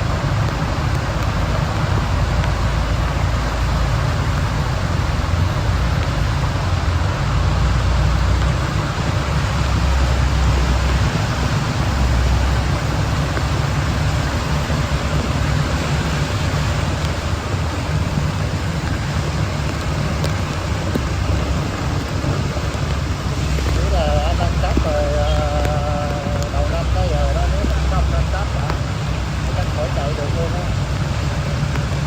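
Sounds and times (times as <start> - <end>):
low rumble: 0.0 - 32.0
vehicle traffic road noise: 0.0 - 32.0.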